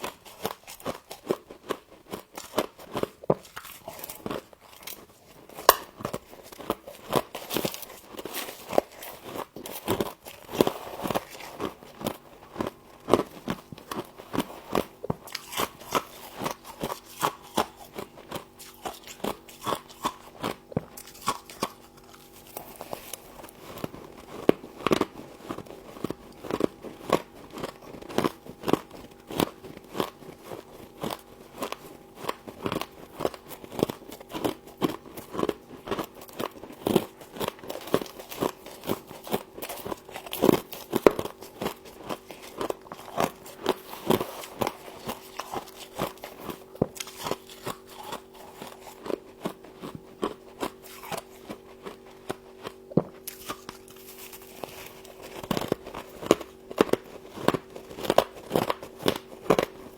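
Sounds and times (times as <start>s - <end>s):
faint steady hum: 0.0s - 59.9s
crisp crunching of frost: 2.1s - 59.9s.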